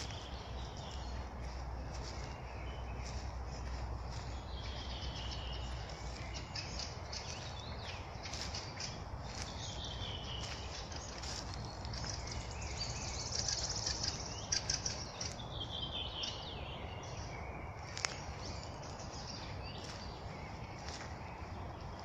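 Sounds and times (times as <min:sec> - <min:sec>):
low background rumble: 0:00.0 - 0:22.0
songbirds singing: 0:00.0 - 0:22.0.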